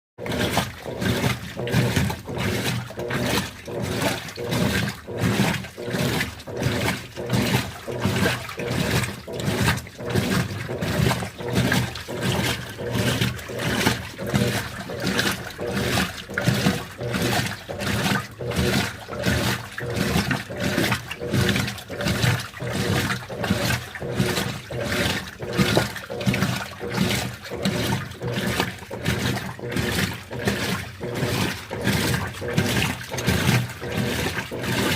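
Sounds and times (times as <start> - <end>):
low motor hum: 0.2 - 34.9
washing machine water sloshing: 0.2 - 34.9.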